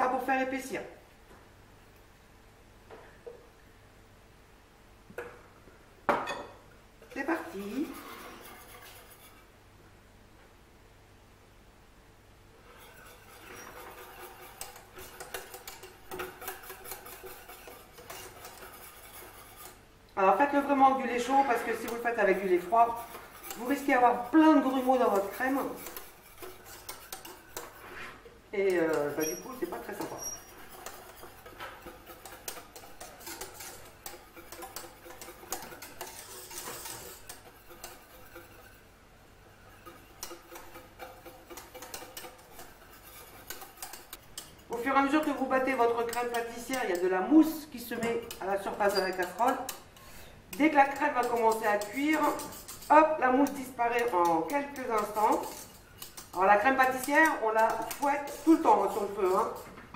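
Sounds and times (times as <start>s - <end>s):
whisk ticking and scraping pan: 7.0s - 9.6s, 12.6s - 59.9s.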